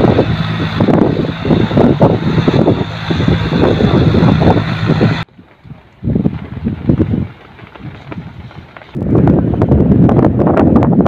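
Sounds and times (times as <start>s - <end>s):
low engine hum: 0.0s - 11.0s
wind buffeting microphone: 0.0s - 11.0s.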